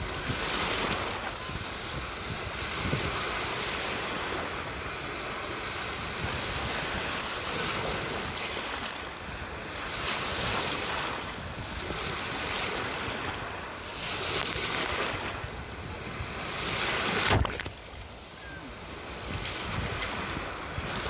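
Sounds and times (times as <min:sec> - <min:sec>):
small waves washing onto shore: 0:00.0 - 0:21.0
wind noise on microphone: 0:00.0 - 0:21.0.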